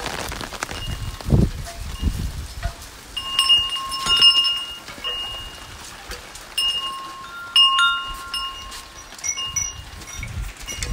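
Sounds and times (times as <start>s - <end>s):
rain tapping on umbrella: 0.0s - 10.9s
wind chimes ringing: 0.7s - 10.9s.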